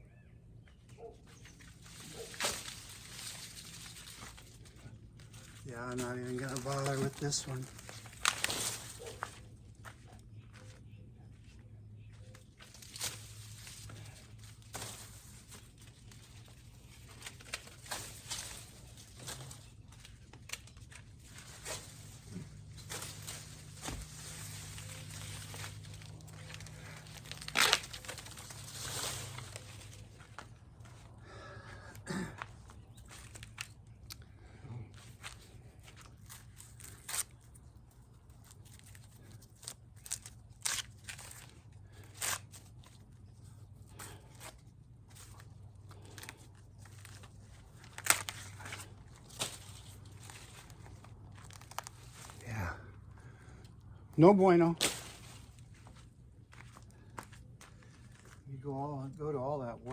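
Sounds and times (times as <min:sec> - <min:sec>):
corn husks rustling and tearing: 0:01.2 - 0:59.9.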